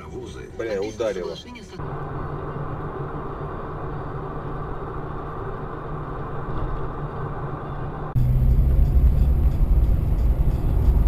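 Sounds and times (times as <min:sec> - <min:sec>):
car running with road noise: 0:00.0 - 0:11.0
deep engine rumble: 0:01.8 - 0:11.0.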